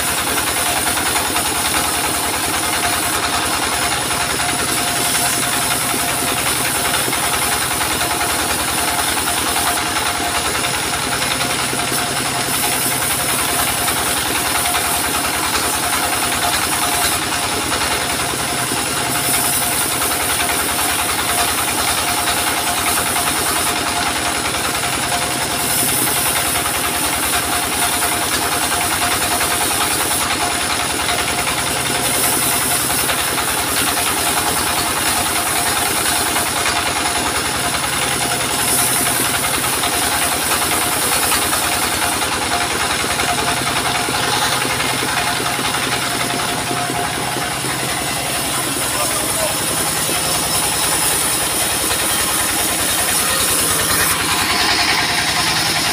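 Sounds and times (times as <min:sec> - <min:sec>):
circular saw cutting wood: 0:00.0 - 0:55.9
diesel engine running: 0:00.0 - 0:55.9.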